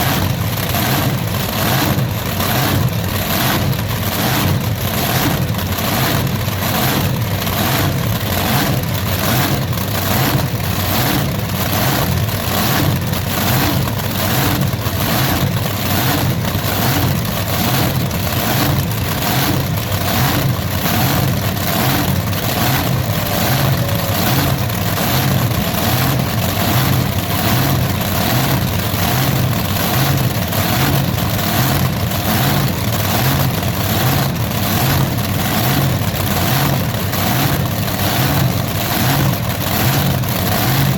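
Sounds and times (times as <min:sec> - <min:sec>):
tractor engine pulsing: 0:00.0 - 0:40.9.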